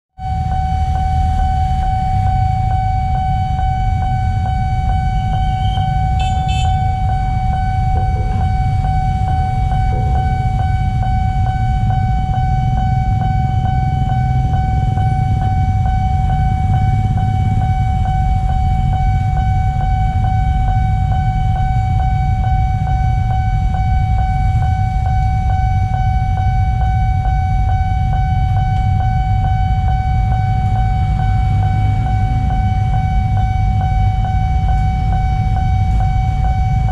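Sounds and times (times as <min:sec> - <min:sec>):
level crossing alarm tone: 0:00.2 - 0:36.9.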